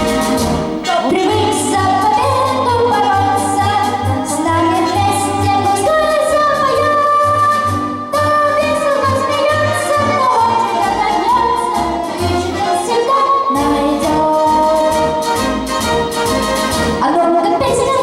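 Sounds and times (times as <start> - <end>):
orchestral backing track with bass beat: 0.0 - 18.0.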